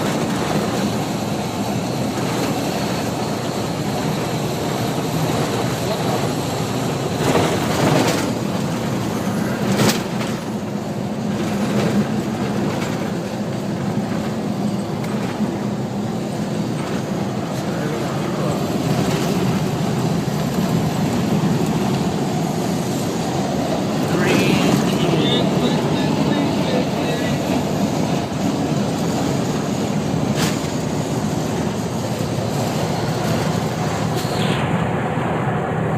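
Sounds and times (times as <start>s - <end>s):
truck engine and road drone: 0.0s - 35.9s.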